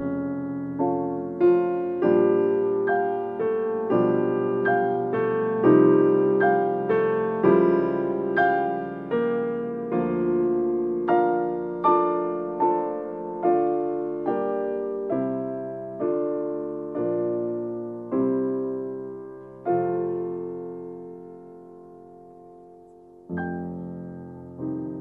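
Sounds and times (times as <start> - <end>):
slow gentle piano chords: 0.0 - 25.0.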